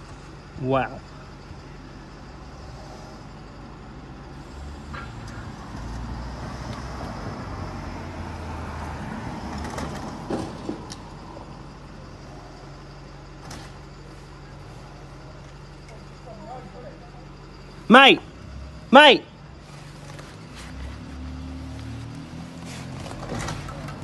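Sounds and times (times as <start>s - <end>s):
car engine rumble passing: 0.0s - 24.0s.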